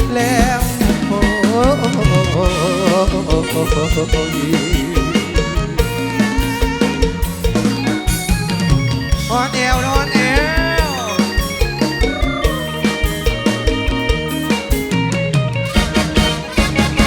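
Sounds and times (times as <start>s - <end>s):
drum kit steady beat: 0.0s - 17.0s
live band playing instrumental: 0.0s - 17.0s.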